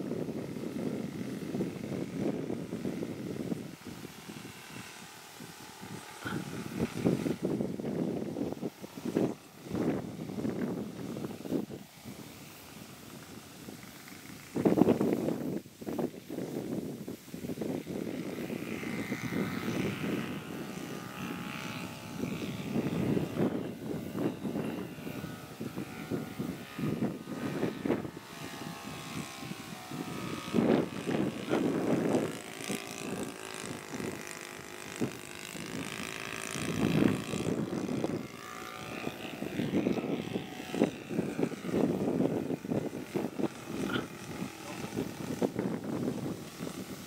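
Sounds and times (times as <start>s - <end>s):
propeller plane engine: 0.0s - 47.0s.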